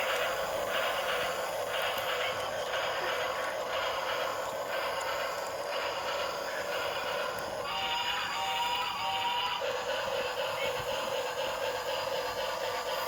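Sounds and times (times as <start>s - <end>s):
toy train whirring on plastic track: 0.0s - 13.0s.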